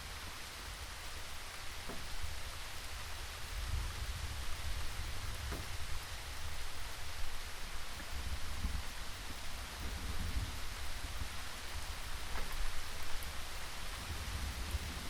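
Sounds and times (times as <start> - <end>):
individual raindrops: 0.0 - 15.0
rain hissing: 0.0 - 15.0
low uneven rumble: 0.6 - 15.0.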